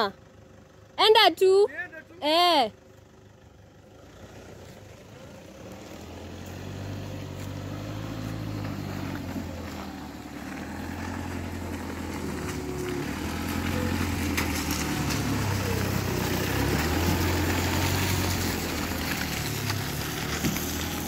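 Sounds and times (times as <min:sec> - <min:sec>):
pickup truck engine in mud: 0:01.7 - 0:21.0.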